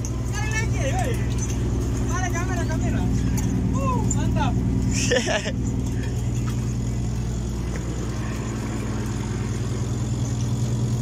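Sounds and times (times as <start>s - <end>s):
constant hiss: 0.0s - 11.0s
deck machinery running: 0.0s - 11.0s
ship engines droning: 0.0s - 11.0s.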